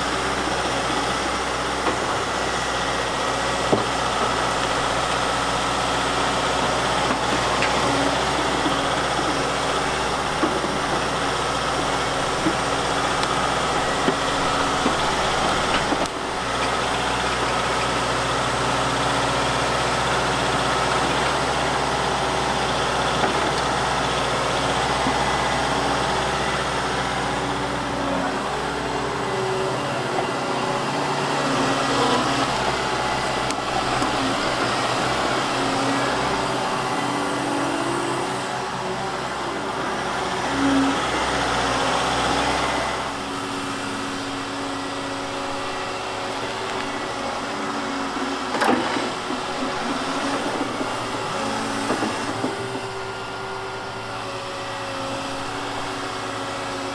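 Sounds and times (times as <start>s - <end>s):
excavator diesel engine running: 0.0s - 56.9s
hydraulics whining: 0.0s - 56.9s.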